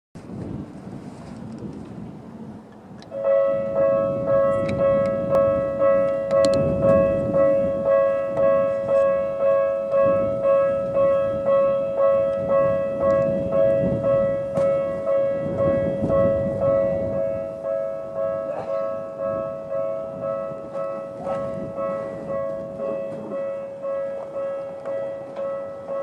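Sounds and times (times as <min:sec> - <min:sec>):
level crossing alarm bell: 0:03.1 - 0:26.0.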